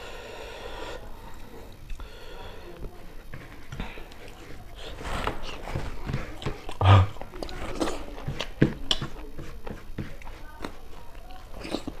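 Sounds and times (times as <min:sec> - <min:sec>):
chewing: 0:01.2 - 0:02.1, 0:02.8 - 0:12.0.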